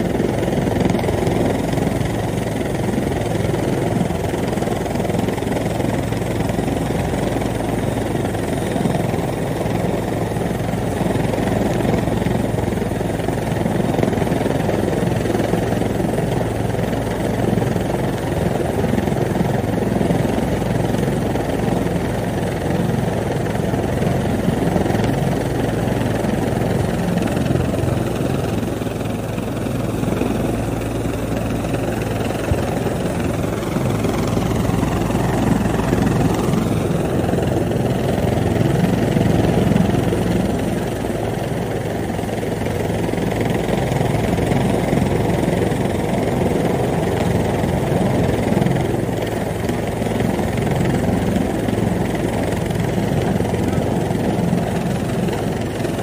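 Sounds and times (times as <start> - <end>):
helicopter rotor drone: 0.0 - 56.0.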